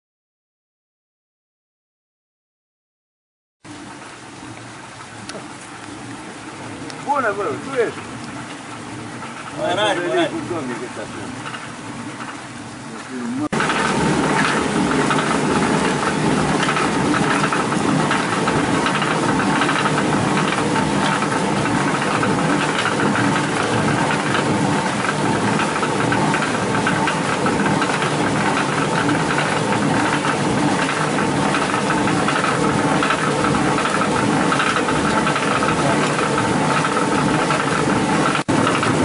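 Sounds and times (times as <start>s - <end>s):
water mill millstones clattering: 3.8s - 39.0s.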